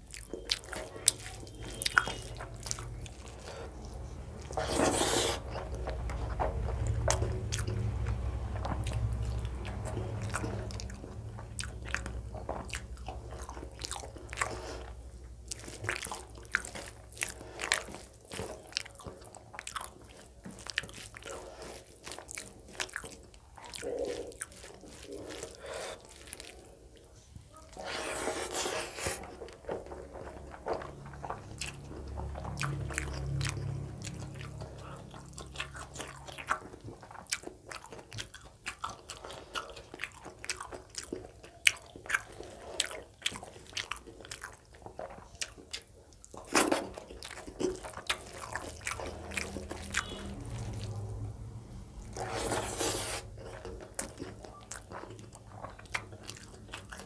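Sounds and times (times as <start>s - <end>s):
person chewing and smacking: 0.0s - 57.0s.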